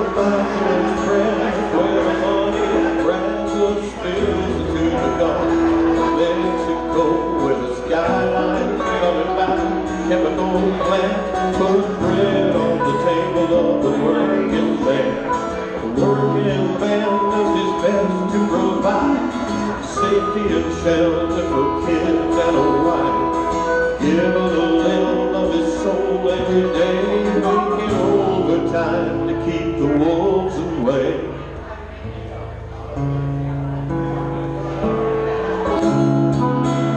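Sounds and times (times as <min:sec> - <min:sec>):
bass line: 0:00.0 - 0:36.9
guitars strumming: 0:00.0 - 0:36.9.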